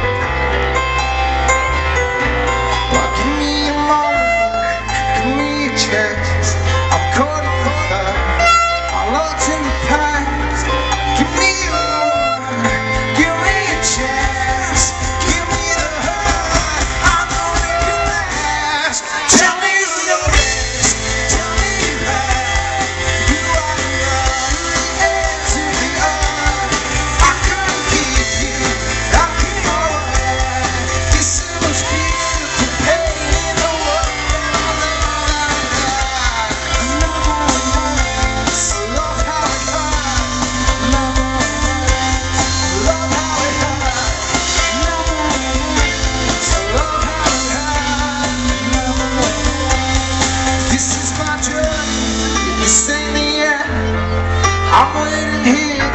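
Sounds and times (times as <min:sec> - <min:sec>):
loud rock music: 0:00.0 - 0:55.9.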